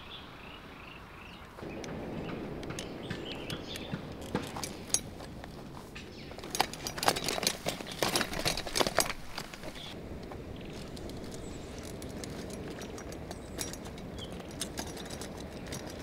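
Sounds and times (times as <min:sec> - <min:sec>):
outdoor hush: 0:00.0 - 0:16.0
wagon rattling over grass: 0:01.6 - 0:16.0.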